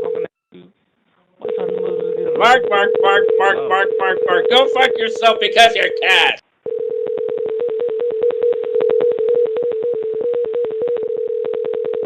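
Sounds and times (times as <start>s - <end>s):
telephone line tone: 1.4s - 12.0s.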